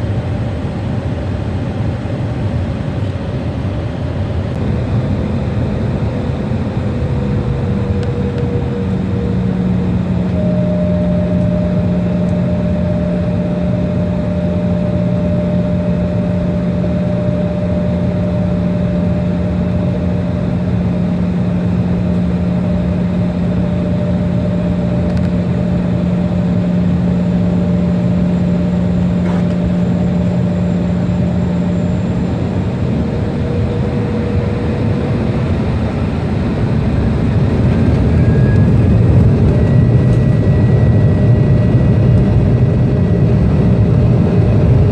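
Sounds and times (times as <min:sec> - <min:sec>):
jet engines humming and whining: 0:00.0 - 0:44.9.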